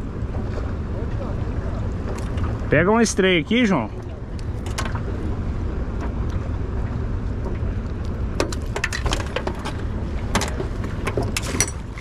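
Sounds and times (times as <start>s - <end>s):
fishing boat engine rumble: 0.0s - 12.0s.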